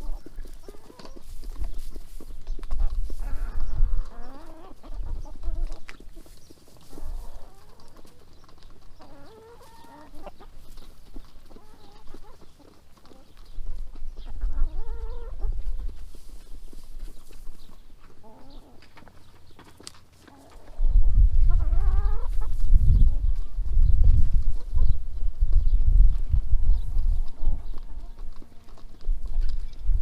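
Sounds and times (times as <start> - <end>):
hens clucking: 0.0 - 25.7, 26.5 - 29.8.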